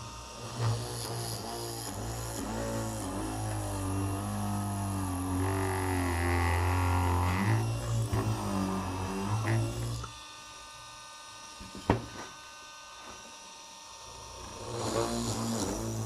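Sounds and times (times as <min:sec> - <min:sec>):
small motor whining: 0:00.0 - 0:16.0.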